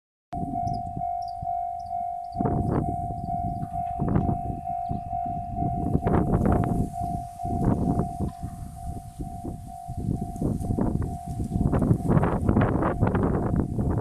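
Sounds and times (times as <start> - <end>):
level-crossing alarm tone: 0.4 - 13.5
low gusting noise: 0.4 - 14.0.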